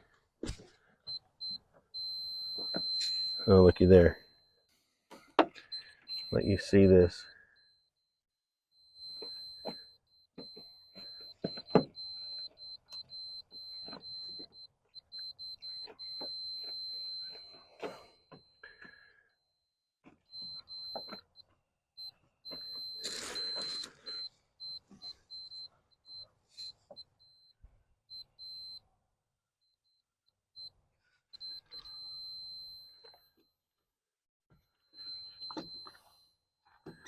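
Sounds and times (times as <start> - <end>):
multimeter continuity beep: 1.0 - 29.0, 29.6 - 33.6, 34.7 - 37.0.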